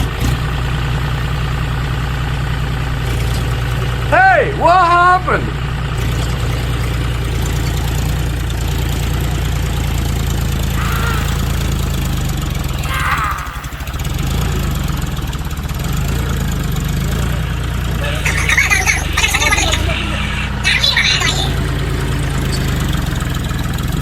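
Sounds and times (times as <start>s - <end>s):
tractor engine rumbling: 0.0s - 24.0s.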